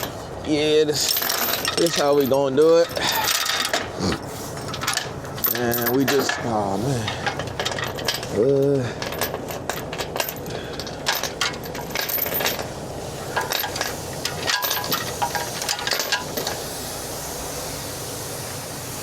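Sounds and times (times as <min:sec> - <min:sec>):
steel chains clinking: 0:00.8 - 0:16.7.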